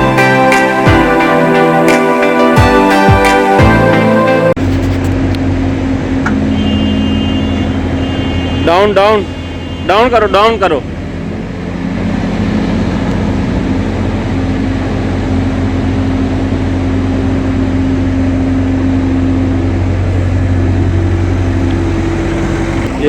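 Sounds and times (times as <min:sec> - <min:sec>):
diesel engine running: 0:03.6 - 0:23.0.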